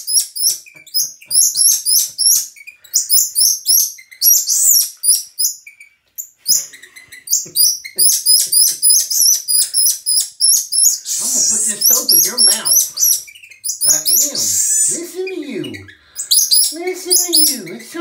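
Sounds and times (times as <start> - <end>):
monkey chirping calls: 0.0 - 5.9, 6.5 - 18.0.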